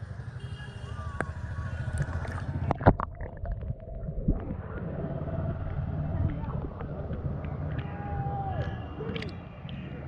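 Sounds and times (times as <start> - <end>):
muffled low rumbling: 1.0 - 10.0.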